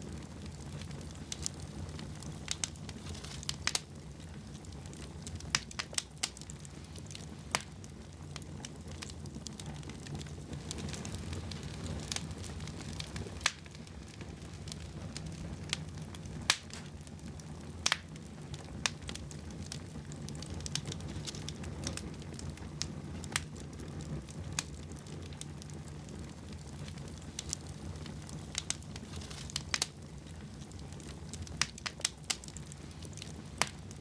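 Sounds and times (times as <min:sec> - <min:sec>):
fire crackling and popping: 0:00.0 - 0:34.0
flames low rumble: 0:00.0 - 0:34.0.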